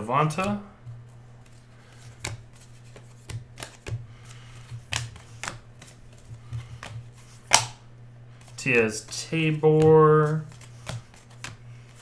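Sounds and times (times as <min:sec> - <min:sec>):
low steady hum: 0:00.0 - 0:12.0
trading cards flicking and snapping: 0:00.2 - 0:12.0.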